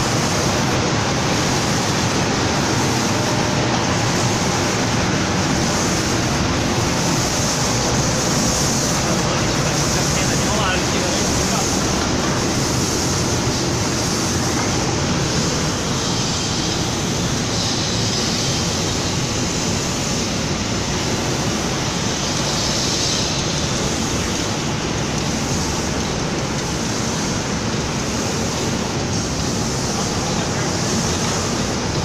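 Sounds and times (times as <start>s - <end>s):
spray-painting machinery rush: 0.0s - 32.0s.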